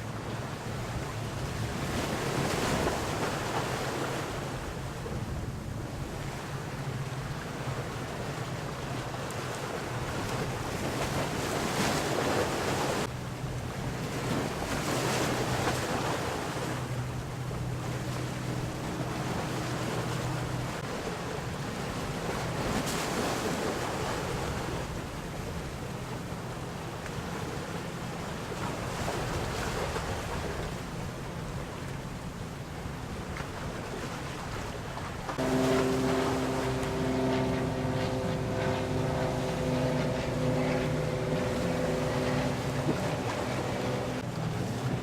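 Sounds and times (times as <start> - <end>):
motor boat engine droning: 0.0 - 30.7, 35.2 - 45.0
waves washing: 0.0 - 45.0.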